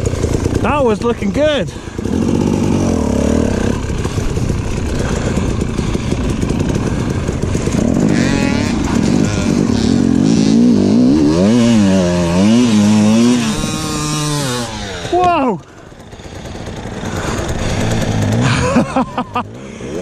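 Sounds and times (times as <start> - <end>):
two-stroke dirt bike engine revving: 0.0 - 20.0.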